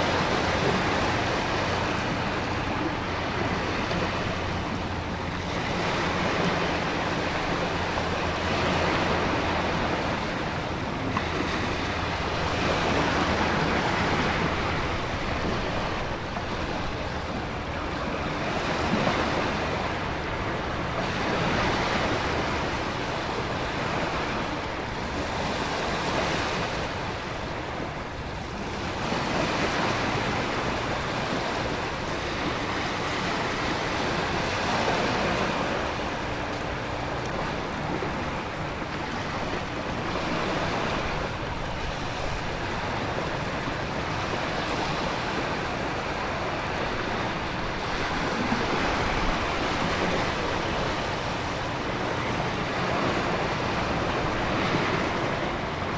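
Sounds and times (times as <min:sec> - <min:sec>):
ocean waves surging: 0:00.0 - 0:55.9
wind: 0:00.0 - 0:55.9.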